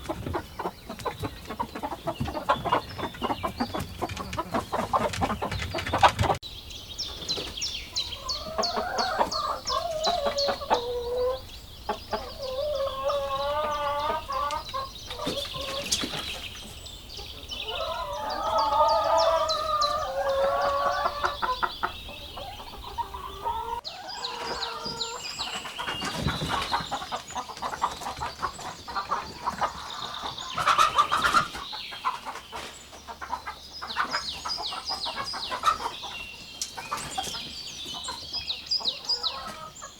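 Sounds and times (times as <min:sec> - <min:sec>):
chickens clucking: 0:00.0 - 0:06.4, 0:07.0 - 0:39.9.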